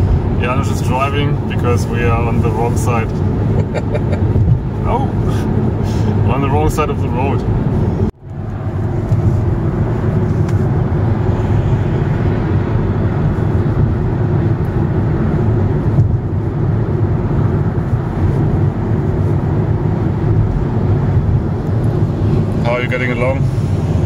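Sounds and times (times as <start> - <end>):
car cabin road and wind noise: 0.0 - 24.0.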